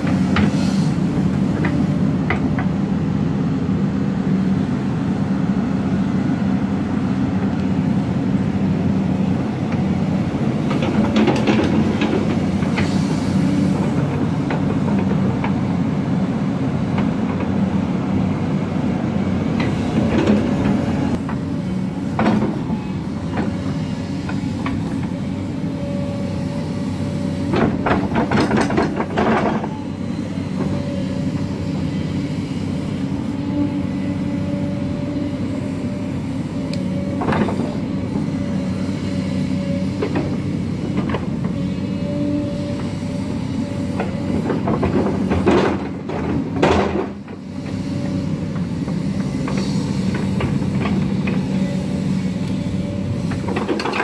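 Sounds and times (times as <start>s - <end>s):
excavator clatter: 0.0s - 2.9s, 9.6s - 15.8s, 16.8s - 18.0s, 19.5s - 54.0s
diesel engine running under load: 0.0s - 54.0s.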